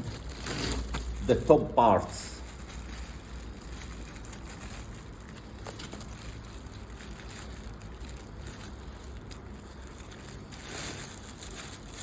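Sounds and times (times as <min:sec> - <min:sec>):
packing material rustling: 0:00.0 - 0:12.0.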